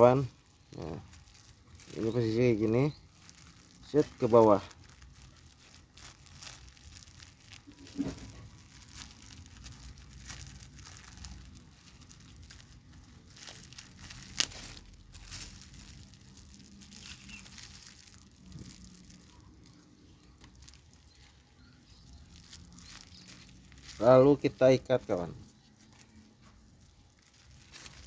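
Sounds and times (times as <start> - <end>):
plastic crinkling: 0.0 - 28.0.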